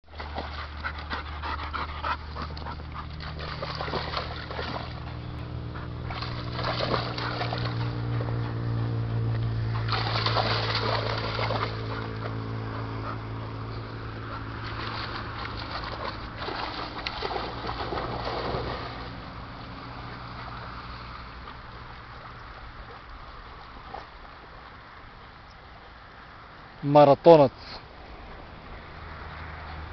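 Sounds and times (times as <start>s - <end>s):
dog splashing through water: 0.1s - 24.5s
steady low hum: 0.1s - 26.7s.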